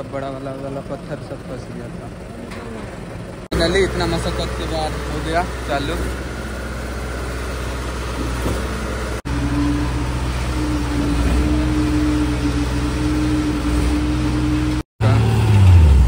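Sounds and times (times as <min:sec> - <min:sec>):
concrete pump engine running: 0:00.0 - 0:15.6
mixer truck engine running: 0:00.0 - 0:16.0.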